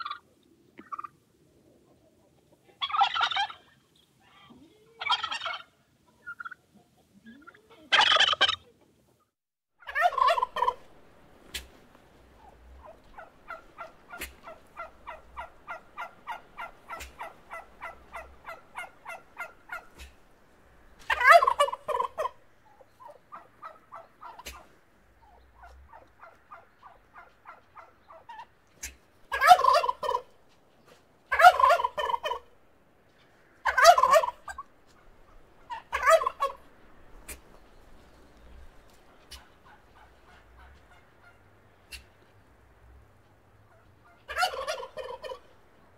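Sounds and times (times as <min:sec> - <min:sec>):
short repeated turkey calls: 0:00.0 - 0:09.2, 0:09.8 - 0:45.9
turkey gobbling: 0:00.0 - 0:09.2, 0:09.8 - 0:45.7.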